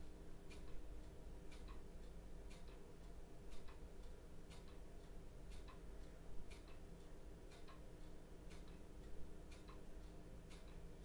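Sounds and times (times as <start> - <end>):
clock ticking: 0.0 - 11.0
low steady hum: 0.0 - 11.0.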